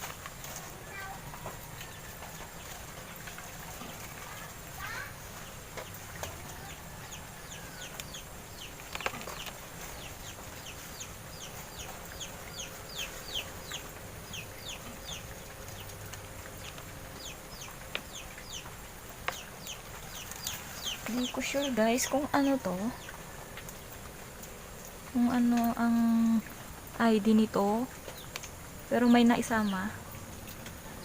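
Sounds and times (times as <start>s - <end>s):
birds peeping: 0.0s - 31.0s.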